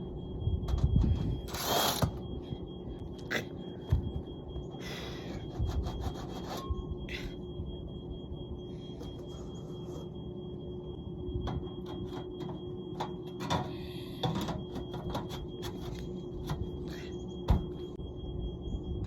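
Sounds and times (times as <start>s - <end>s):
faint high whine: 0.0s - 19.0s
steady hum: 0.0s - 19.0s.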